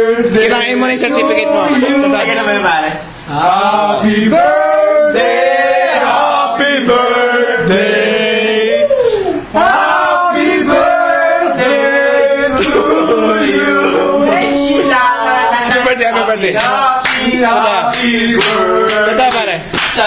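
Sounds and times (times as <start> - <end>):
men singing unaccompanied: 0.0 - 2.7, 3.3 - 8.7, 9.6 - 19.6.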